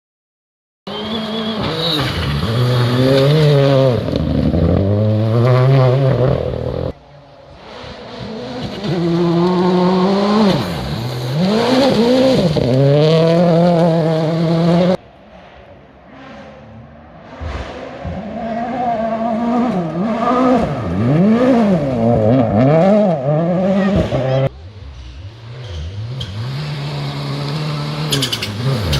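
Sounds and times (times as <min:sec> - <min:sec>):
rally car engine revving: 0:00.9 - 0:28.9.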